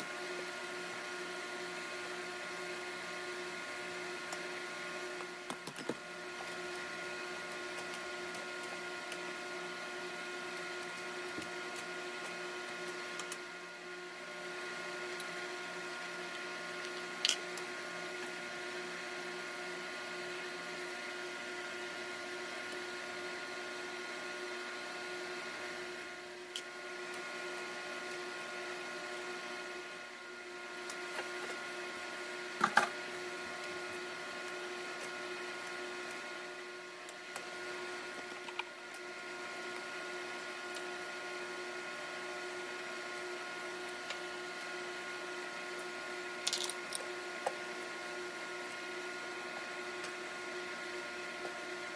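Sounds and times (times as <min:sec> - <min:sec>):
electric motor hum: 0:00.0 - 0:51.9.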